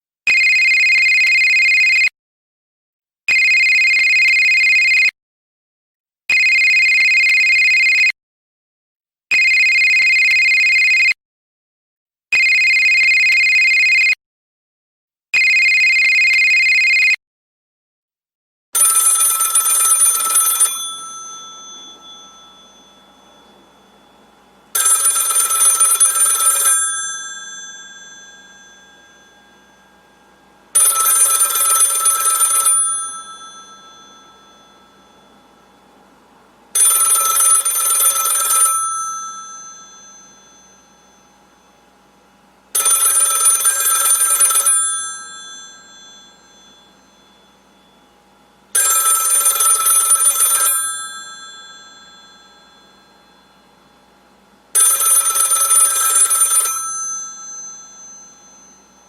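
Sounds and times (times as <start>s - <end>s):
telephone bell ringing: 0.3s - 2.1s, 3.3s - 5.1s, 6.3s - 8.1s, 9.4s - 11.2s, 12.4s - 14.2s, 15.4s - 17.2s, 18.8s - 36.1s, 36.7s - 59.0s.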